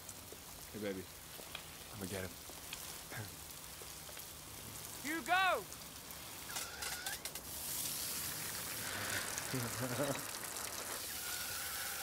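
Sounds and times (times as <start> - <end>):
garden hose spraying water: 0.0 - 12.0.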